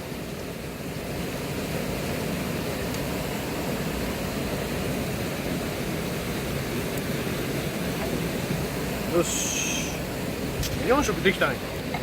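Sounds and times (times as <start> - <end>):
mountain stream rushing: 0.1 - 12.0.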